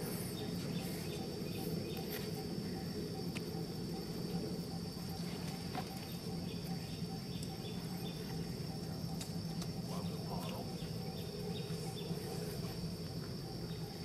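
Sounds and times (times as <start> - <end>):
high-pitched insect drone: 0.0 - 14.0
low steady hum: 0.0 - 14.0.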